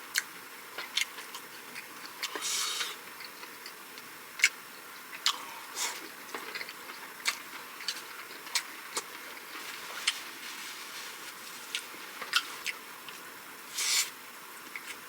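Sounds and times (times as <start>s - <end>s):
close-miked chewing: 0.1s - 10.5s, 11.2s - 14.0s.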